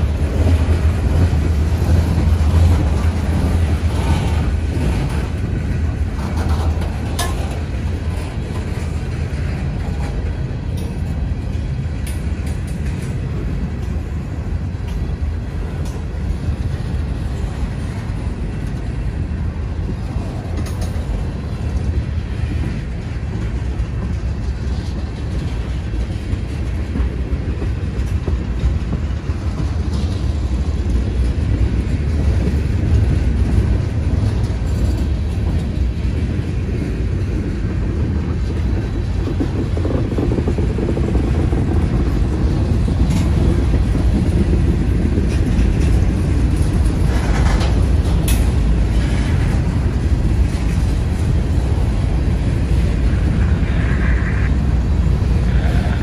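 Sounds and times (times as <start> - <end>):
freight train rumbling on track: 0.0 - 56.0.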